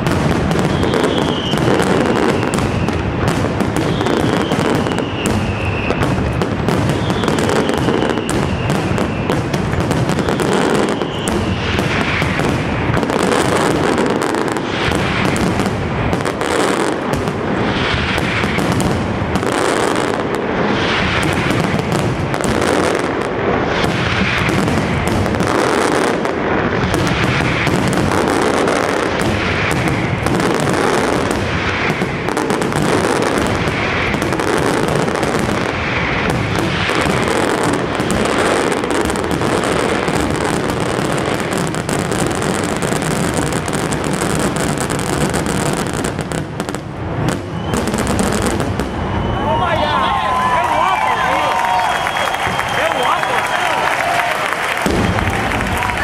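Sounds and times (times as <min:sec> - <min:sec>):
falling firework whistles: 0:00.0 - 0:56.0
firework bursts and crackling bangs: 0:00.0 - 0:56.0.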